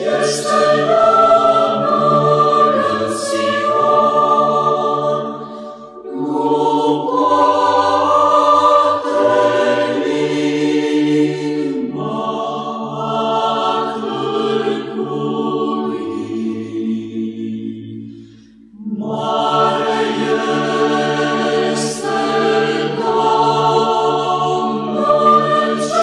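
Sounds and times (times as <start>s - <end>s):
choir singing a cappella chant: 0.0s - 26.0s.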